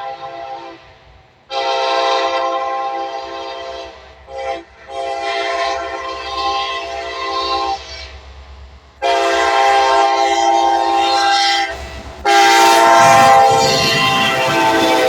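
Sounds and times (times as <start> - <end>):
locomotive air horn blasts: 0.0 - 0.8, 1.5 - 8.1, 9.0 - 15.0
passing train rumble: 0.0 - 15.0.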